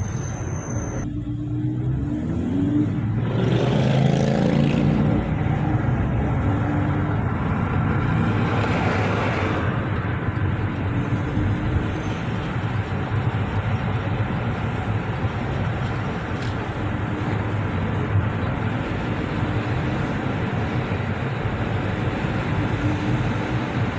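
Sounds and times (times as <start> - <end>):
street traffic hum: 0.0 - 23.9
vehicles passing: 0.0 - 23.9.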